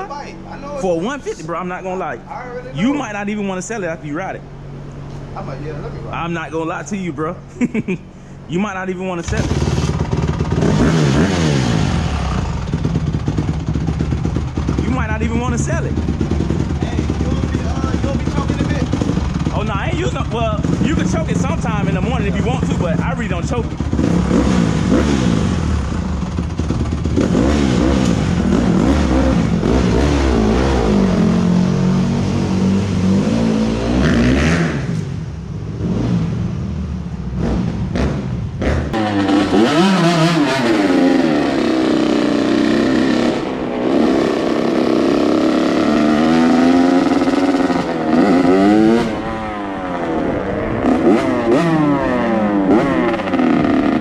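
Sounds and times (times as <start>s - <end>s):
dirt bike engine revving: 9.2s - 36.7s, 37.3s - 54.0s.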